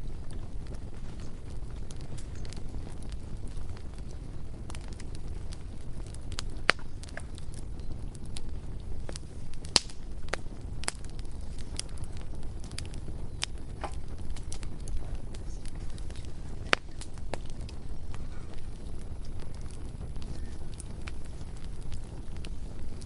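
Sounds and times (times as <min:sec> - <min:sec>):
bonfire crackling and popping: 0:00.0 - 0:23.0
low fire rumble: 0:00.0 - 0:23.0.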